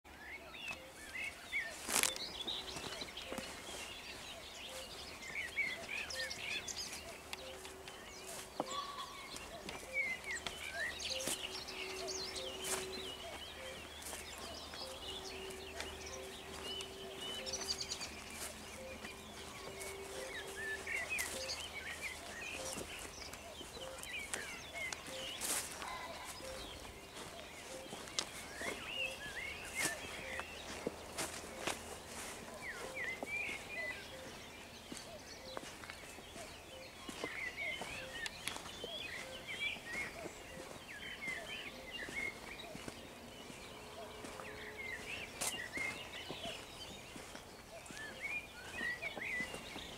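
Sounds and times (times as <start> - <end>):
songbirds chirping and singing: 0.1 - 49.9.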